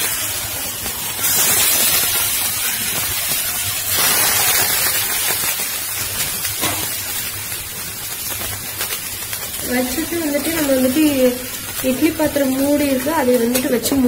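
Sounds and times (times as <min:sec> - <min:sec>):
chicken sizzling on a hot griddle: 0:00.0 - 0:14.0.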